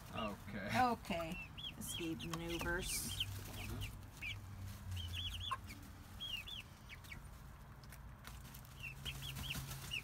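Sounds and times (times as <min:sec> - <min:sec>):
chicks cheeping: 0:00.1 - 0:10.0.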